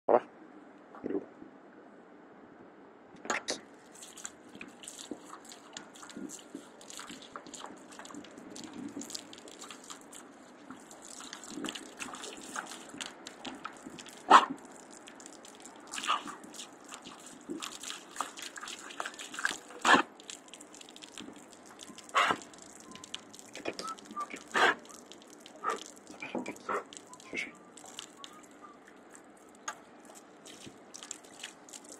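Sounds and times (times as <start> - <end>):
dog splashing and snapping: 3.9 - 31.9.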